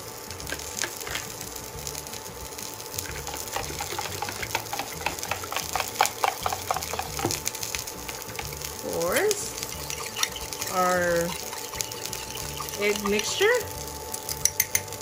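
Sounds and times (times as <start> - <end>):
faint steady whine: 0.0 - 15.0
food sizzling in a pan: 0.0 - 15.0
sharp crackles and clicks: 0.0 - 15.0.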